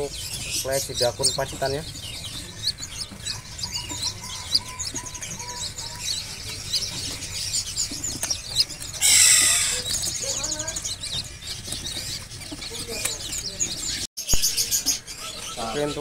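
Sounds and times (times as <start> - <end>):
birds chirping high: 0.0 - 16.0.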